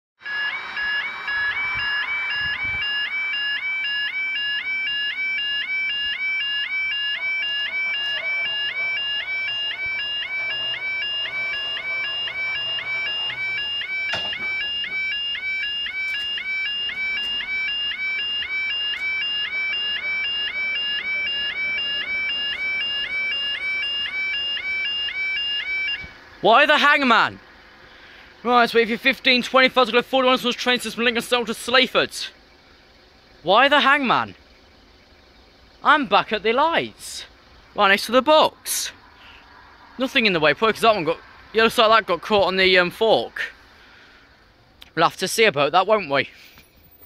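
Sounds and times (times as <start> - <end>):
level crossing alarm warble: 0.2 - 47.0.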